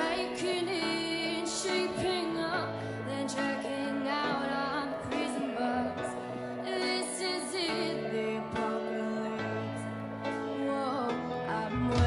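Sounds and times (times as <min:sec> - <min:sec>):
song with sung vocals: 0:00.0 - 0:12.0.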